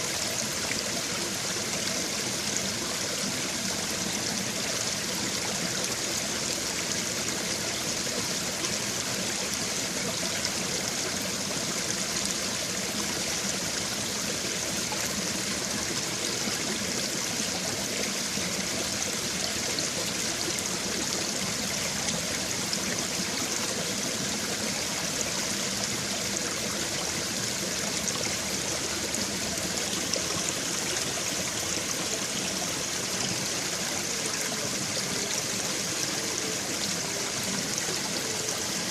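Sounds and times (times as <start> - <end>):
stream water trickling over stones: 0.0 - 38.9.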